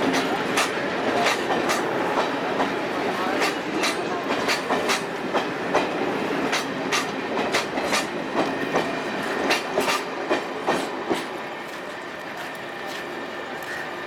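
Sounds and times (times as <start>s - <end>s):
train wheels clacking over rail joints: 0.0s - 13.8s
train rumble: 0.0s - 14.0s.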